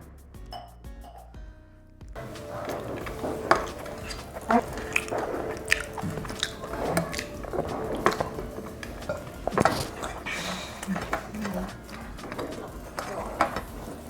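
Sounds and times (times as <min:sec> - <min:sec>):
mouth smacks and clicks: 0:02.2 - 0:14.0
person chewing food: 0:02.2 - 0:14.0.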